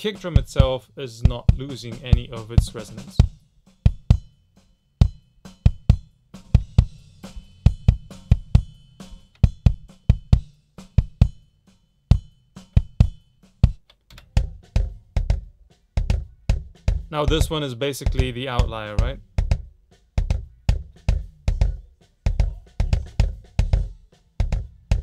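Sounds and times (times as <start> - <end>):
faint snare and cymbals: 0.0 - 25.0
deep kick drum hits: 0.4 - 4.3, 5.7 - 8.8, 9.4 - 11.4, 12.1 - 25.0.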